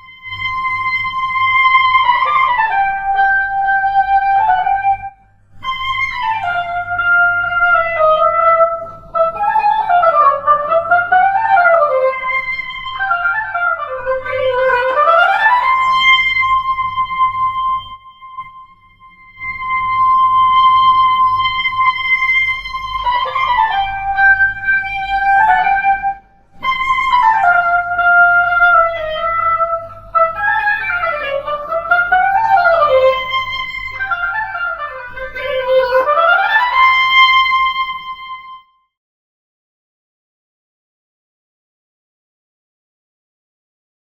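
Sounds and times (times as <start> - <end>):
solo oboe: 0.0 - 38.9.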